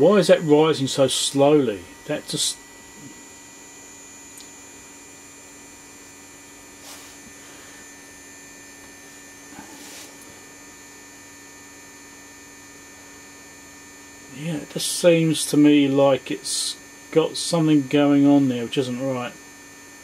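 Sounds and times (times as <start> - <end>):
electrical mains hum: 0.0 - 20.0
high-pitched whine tones: 0.0 - 20.0.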